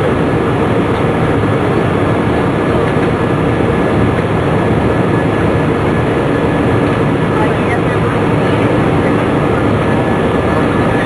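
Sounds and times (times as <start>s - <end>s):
jet engine and airflow noise: 0.0s - 11.0s.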